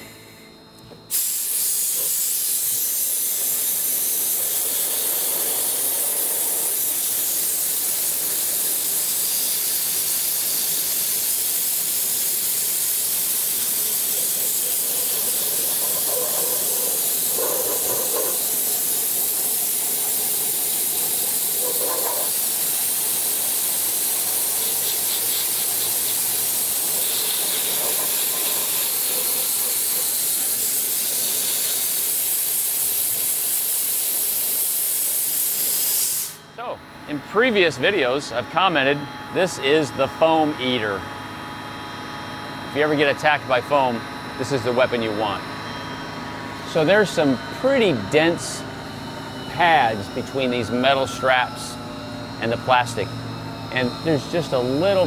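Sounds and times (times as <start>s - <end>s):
dry ice blaster hissing: 0.0s - 41.0s, 42.6s - 55.0s.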